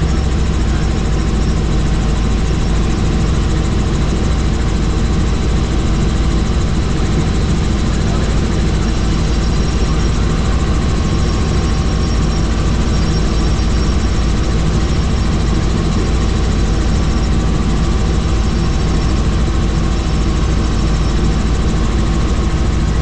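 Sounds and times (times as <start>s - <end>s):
helicopter engine and rotor drone: 0.0s - 23.0s
high whine: 0.0s - 23.0s.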